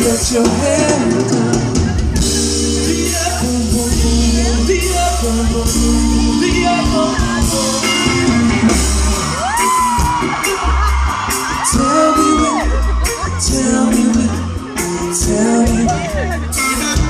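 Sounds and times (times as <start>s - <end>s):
reggae-pop band music: 0.0s - 17.0s.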